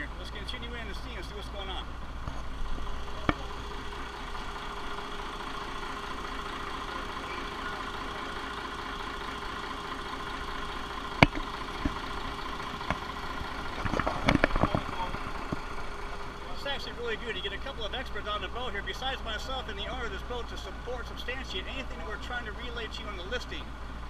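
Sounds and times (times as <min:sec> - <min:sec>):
diesel boat engine idling: 0:00.0 - 0:24.0.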